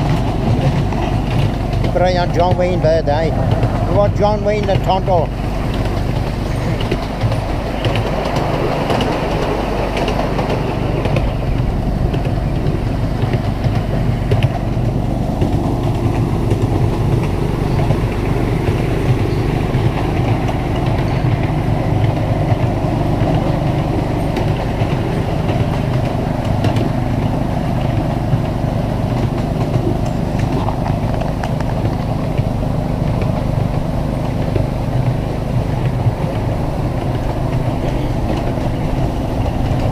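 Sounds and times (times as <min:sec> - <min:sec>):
miniature train running hum: 0:00.0 - 0:39.9
wheels rattling on rails: 0:00.0 - 0:39.9.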